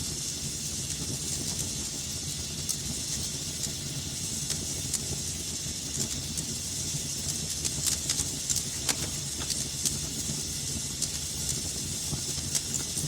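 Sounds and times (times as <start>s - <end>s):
fire crackles and pops: 0.0s - 13.0s
wood fire burning: 0.0s - 13.0s.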